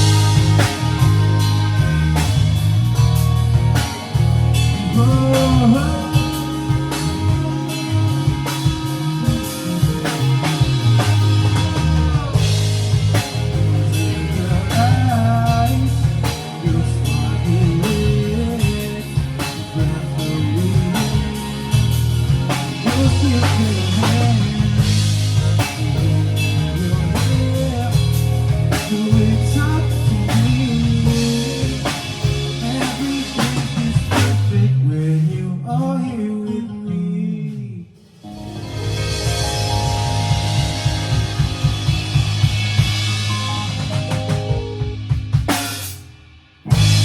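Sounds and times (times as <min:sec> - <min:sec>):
electric guitar lead lines: 0:00.0 - 0:34.7, 0:38.2 - 0:45.6, 0:46.7 - 0:47.0
drum kit: 0:00.0 - 0:35.9, 0:37.6 - 0:47.0
bass: 0:00.0 - 0:47.0.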